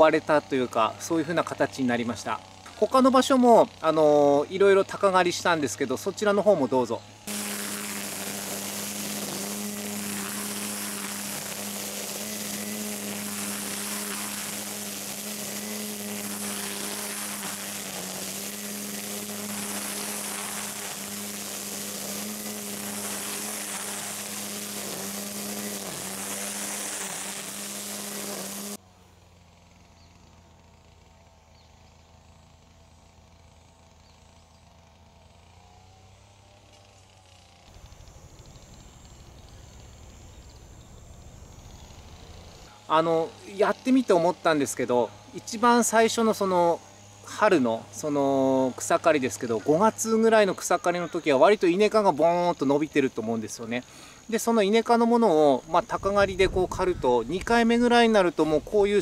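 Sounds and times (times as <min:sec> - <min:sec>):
string trimmer motor hum: 0:00.0 - 0:59.0
trimmer line whipping grass: 0:00.0 - 0:59.0.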